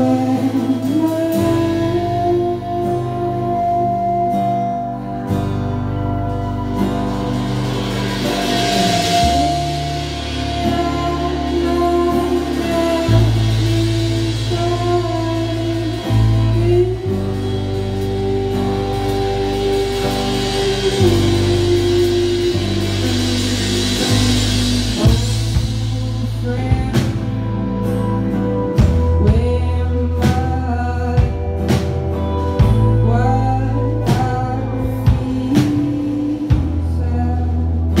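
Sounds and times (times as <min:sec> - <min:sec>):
acoustic guitar strumming: 0:00.0 - 0:38.0
bass guitar: 0:00.0 - 0:38.0
drums and cymbals: 0:00.0 - 0:38.0
electric guitar: 0:00.0 - 0:38.0
person singing: 0:00.0 - 0:38.0.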